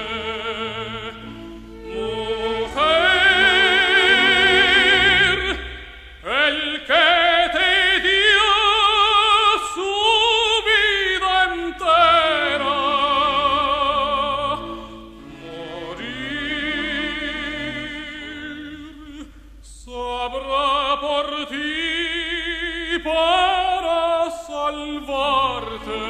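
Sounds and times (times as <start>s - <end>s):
operatic singing with vibrato: 0.0s - 26.0s.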